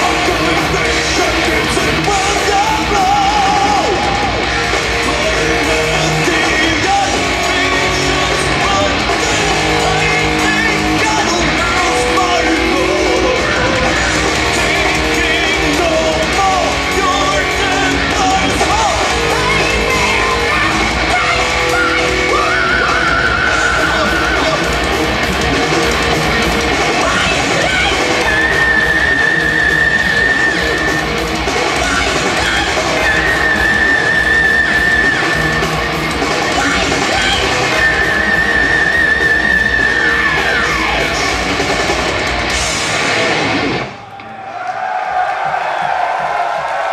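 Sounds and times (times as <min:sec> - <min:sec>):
heavy metal band playing live: 0:00.0 - 0:46.9.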